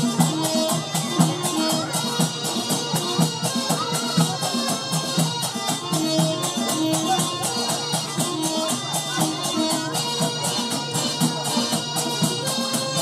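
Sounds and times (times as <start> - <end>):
drum beat: 0.0 - 13.0
small hand cymbals: 0.0 - 13.0.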